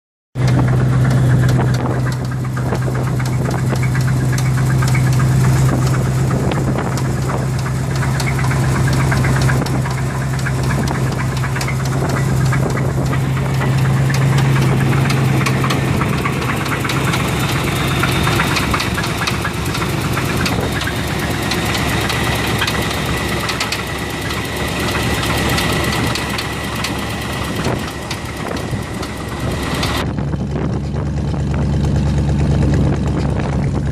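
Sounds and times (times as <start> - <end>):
car engine running with knock: 0.4 - 33.9.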